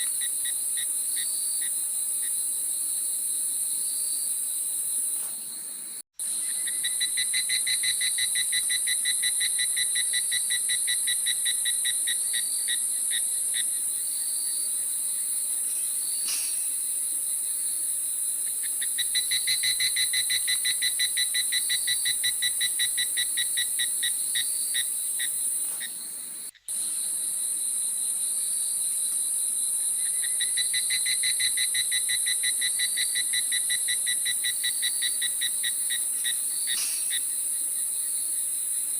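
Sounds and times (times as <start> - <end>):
insects high-pitched drone: 0.0 - 38.9
insect rapid pulsing trill: 6.2 - 38.9.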